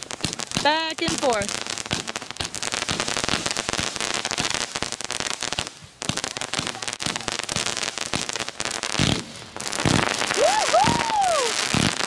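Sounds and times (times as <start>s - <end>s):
firework fountain crackling: 0.0s - 12.0s.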